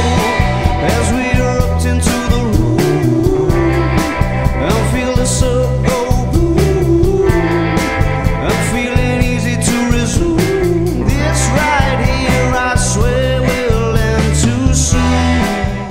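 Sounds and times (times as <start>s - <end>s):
rock song: 0.0s - 15.9s.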